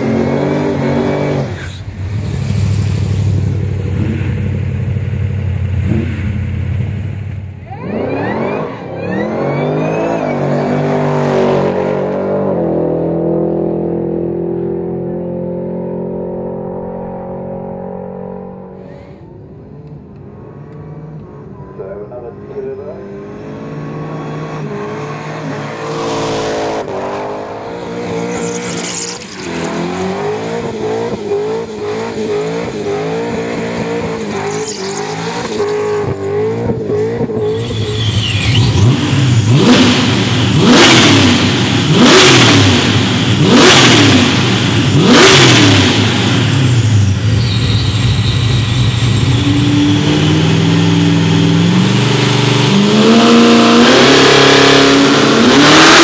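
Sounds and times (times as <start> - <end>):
car engine burnout at high revs: 0.0 - 14.4, 19.9 - 56.0
supercharged engine revving: 5.6 - 19.1, 19.9 - 56.0.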